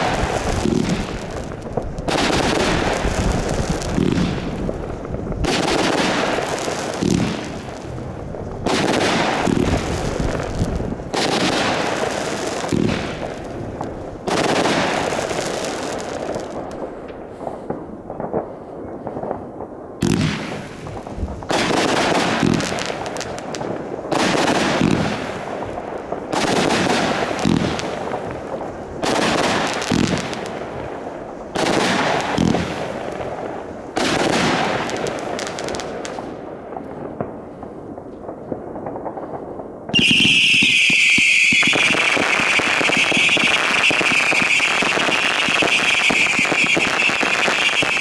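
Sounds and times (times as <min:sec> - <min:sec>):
fireworks bangs: 0:00.0 - 0:48.0
fireworks crackle: 0:00.0 - 0:48.0.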